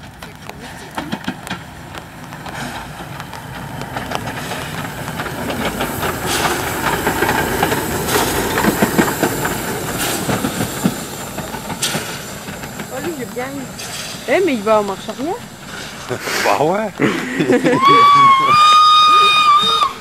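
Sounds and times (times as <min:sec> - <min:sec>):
steam hissing: 0:00.0 - 0:20.0
steam train running: 0:00.0 - 0:20.0.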